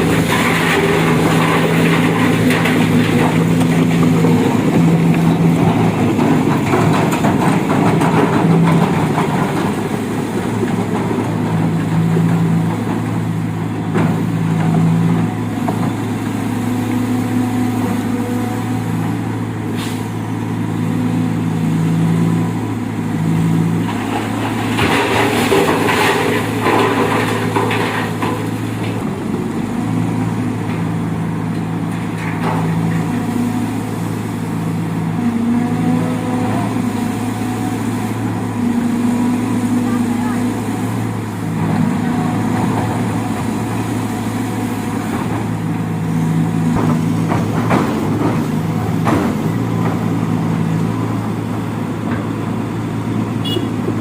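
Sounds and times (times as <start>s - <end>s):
truck engine running under load: 0.0s - 54.0s.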